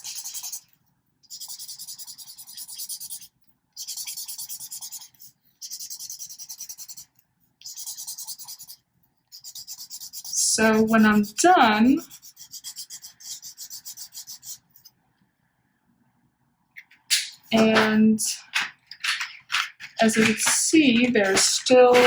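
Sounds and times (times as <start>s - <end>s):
marker scribbling on paper: 0.0s - 14.9s, 17.1s - 22.0s.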